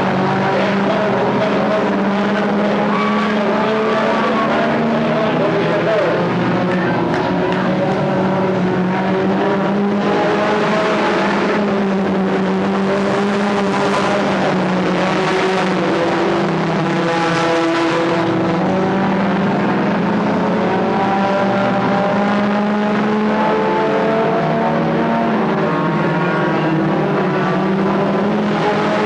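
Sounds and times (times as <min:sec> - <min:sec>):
stock car engines racing: 0:00.0 - 0:29.0.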